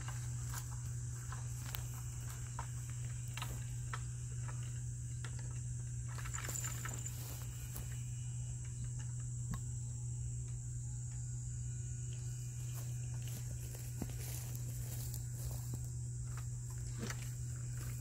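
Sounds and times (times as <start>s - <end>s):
crickets chirping: 0.0s - 18.0s
low steady hum: 0.0s - 18.0s.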